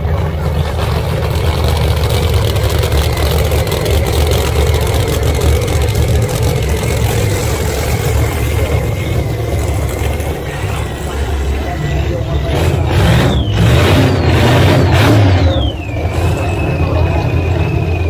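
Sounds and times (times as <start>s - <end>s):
drag racing car engines: 0.0s - 18.0s.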